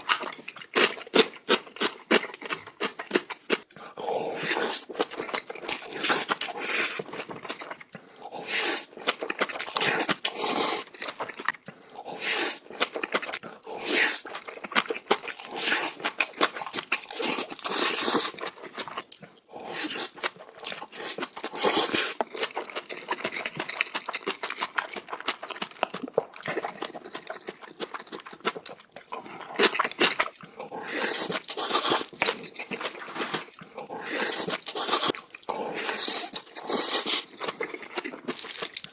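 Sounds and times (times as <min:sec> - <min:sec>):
chewing and crunching: 0:00.0 - 0:38.9.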